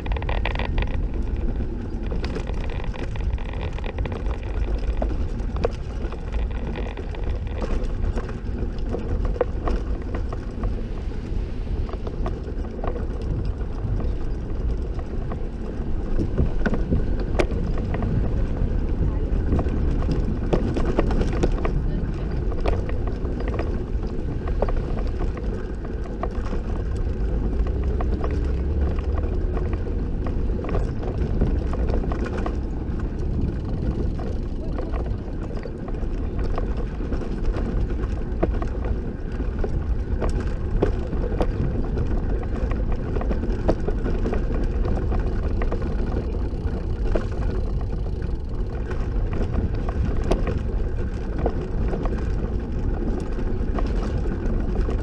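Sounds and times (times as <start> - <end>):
tyres rumbling on wooden deck: 0.0 - 55.0
wheels clicking over board joints: 0.0 - 55.0.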